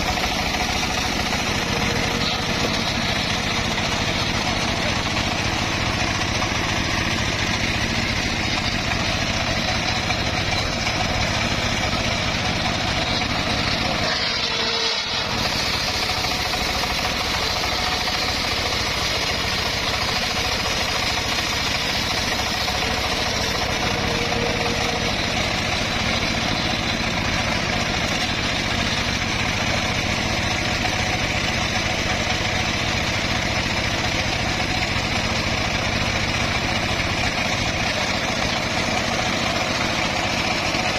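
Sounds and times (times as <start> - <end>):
circular sawmill engine drone: 0.0 - 40.9.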